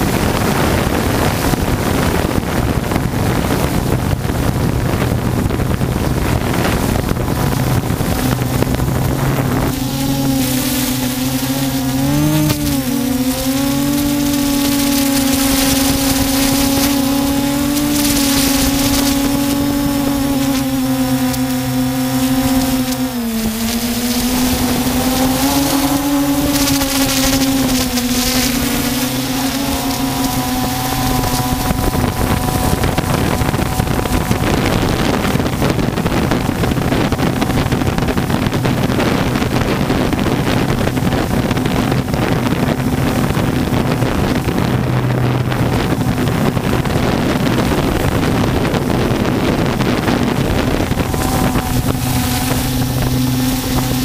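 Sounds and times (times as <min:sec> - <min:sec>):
loud rushing noise: 0:00.0 - 0:41.7, 0:42.3 - 0:54.0
drone motors whining: 0:04.1 - 0:41.0, 0:42.7 - 0:54.0.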